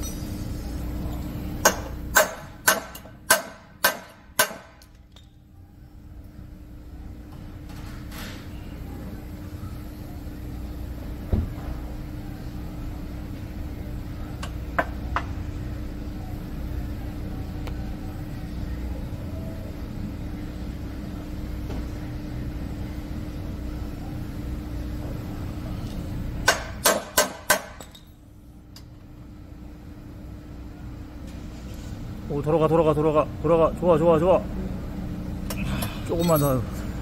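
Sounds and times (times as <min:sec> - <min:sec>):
low machine hum: 0:00.0 - 0:37.0.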